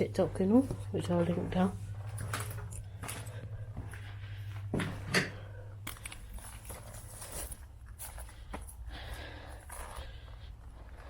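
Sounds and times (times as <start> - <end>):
low steady hum: 0.0 - 11.0
footsteps: 0.5 - 11.0.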